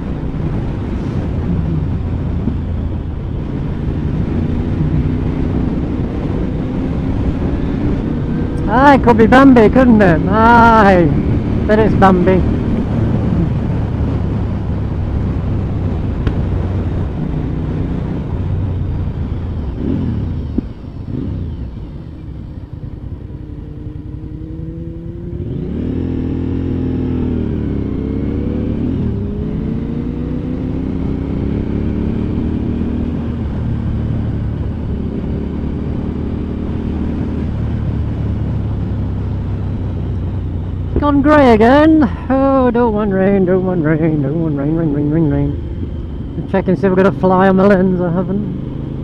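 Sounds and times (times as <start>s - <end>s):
motorcycle engine running: 0.0s - 49.0s
wind rumble: 0.0s - 49.0s.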